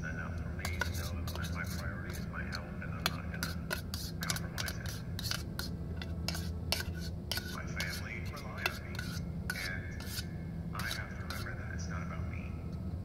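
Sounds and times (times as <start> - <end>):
steady low hum: 0.0 - 13.0
spoon scraping cooking pot: 0.6 - 11.6.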